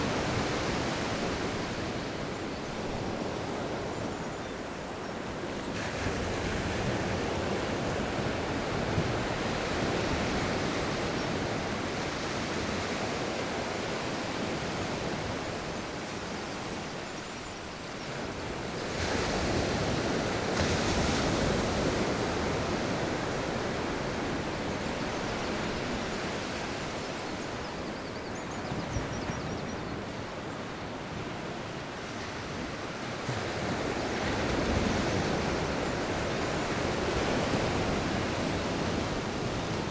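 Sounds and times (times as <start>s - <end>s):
sea waves breaking on a beach: 0.0s - 39.9s
wind: 0.0s - 39.9s.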